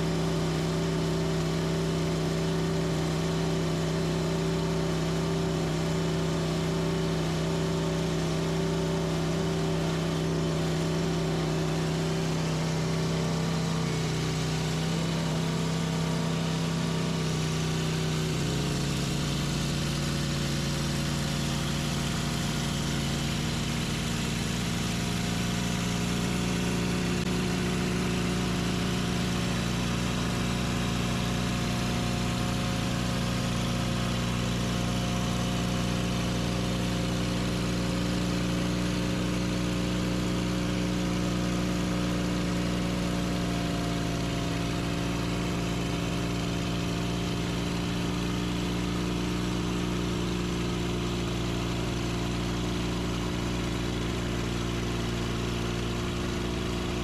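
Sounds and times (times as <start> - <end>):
sawmill engine droning: 0.0 - 57.0.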